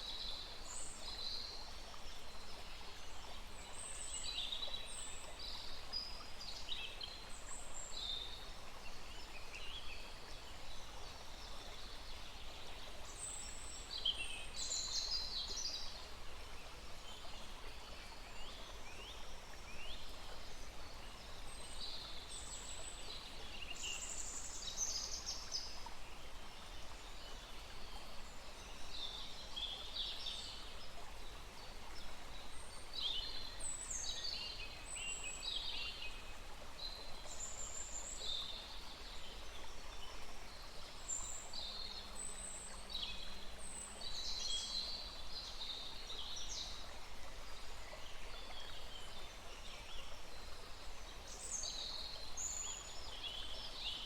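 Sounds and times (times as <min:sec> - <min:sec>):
small stream rushing: 0:00.0 - 0:54.0.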